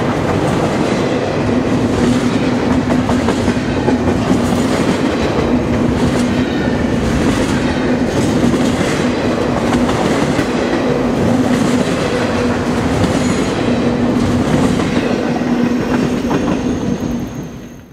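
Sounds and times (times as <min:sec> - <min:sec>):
train wheels clattering on rails: 0:00.0 - 0:17.9.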